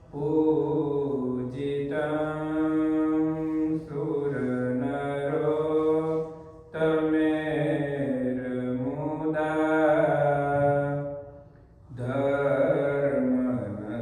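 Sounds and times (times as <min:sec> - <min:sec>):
person chanting long held notes: 0:00.0 - 0:11.3, 0:11.9 - 0:14.0.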